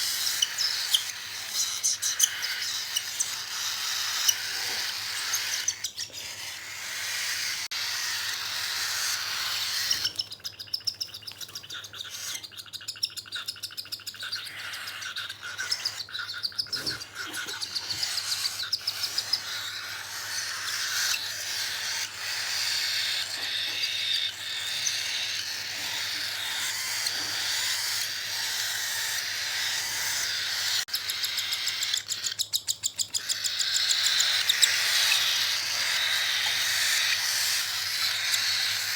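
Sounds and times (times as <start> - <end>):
chicks begging with raspy chatter: 0.0 - 38.9
rapid pulsing calls: 0.0 - 38.9.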